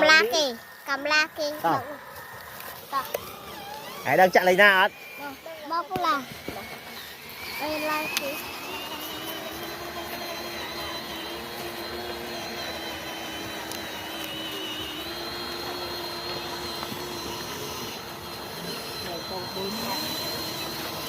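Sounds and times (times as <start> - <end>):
small electric motor whine: 0.0 - 21.0.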